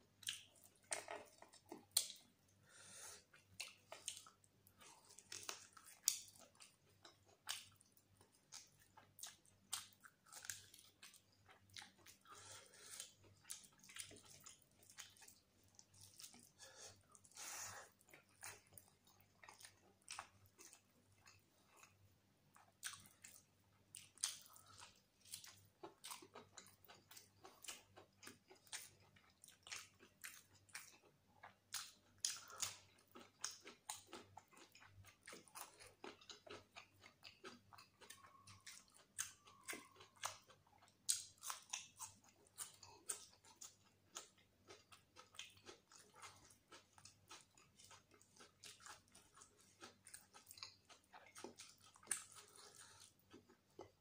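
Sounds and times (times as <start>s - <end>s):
wet chewing: 0.2s - 2.3s, 3.2s - 54.0s
food crunching: 0.2s - 2.4s, 3.2s - 54.0s.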